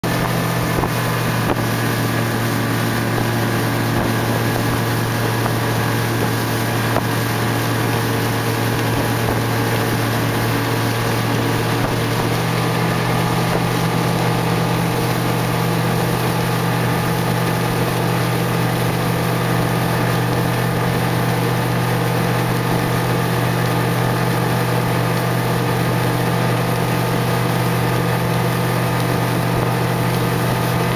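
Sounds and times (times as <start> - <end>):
motorboat engine drone: 0.0 - 30.9
rushing water: 0.0 - 30.9
wind: 0.0 - 30.9.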